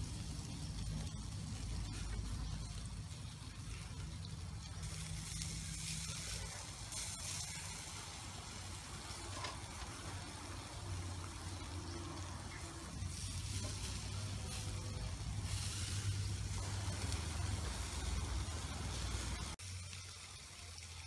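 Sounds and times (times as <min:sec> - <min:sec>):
meat sizzling on grill: 0:00.0 - 0:21.0.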